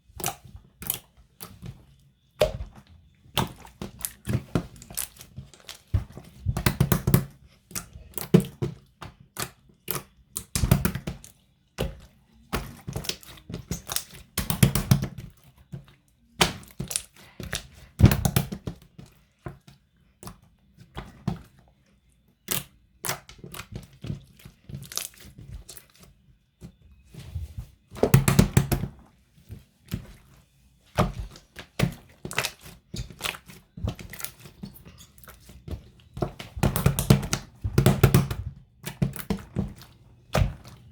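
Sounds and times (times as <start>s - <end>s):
slime squishing: 0.0s - 40.9s.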